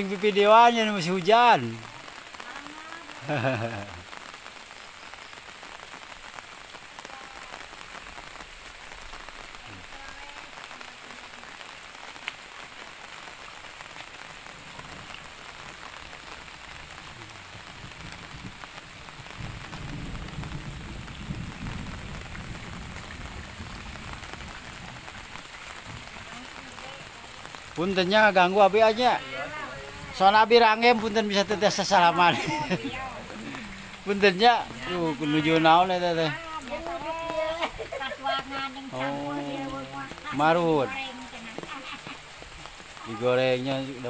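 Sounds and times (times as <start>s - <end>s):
drizzle falling on a pond: 0.0s - 44.0s.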